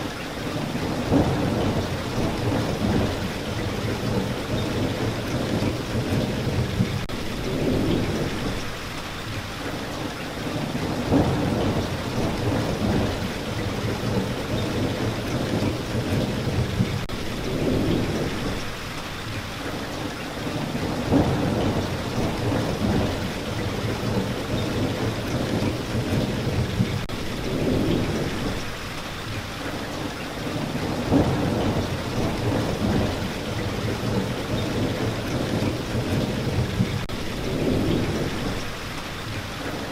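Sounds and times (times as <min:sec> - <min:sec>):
steady rain falling: 0:00.0 - 0:39.9
thunder rumbling: 0:00.5 - 0:08.8, 0:10.5 - 0:18.8, 0:20.5 - 0:28.8, 0:30.5 - 0:38.9.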